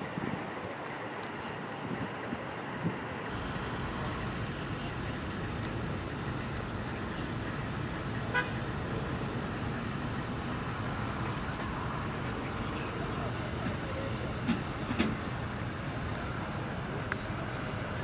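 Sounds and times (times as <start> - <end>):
outdoor background rumble: 0.0 - 18.0.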